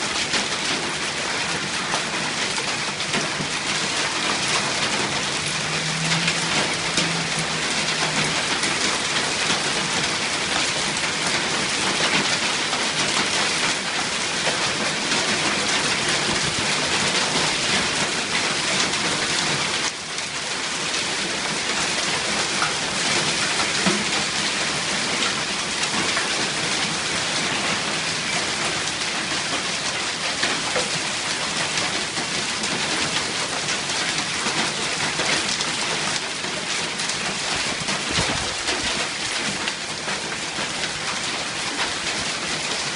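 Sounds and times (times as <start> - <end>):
hailstones and rain clattering: 0.0 - 42.9.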